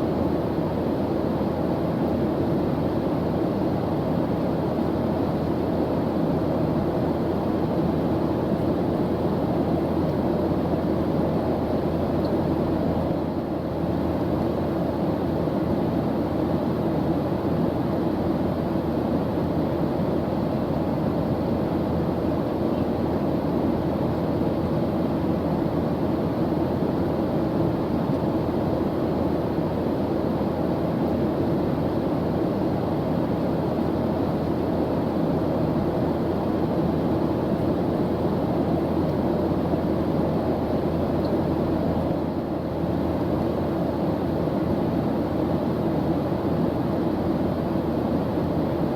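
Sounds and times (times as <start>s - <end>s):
airplane engine drone: 0.0s - 48.9s.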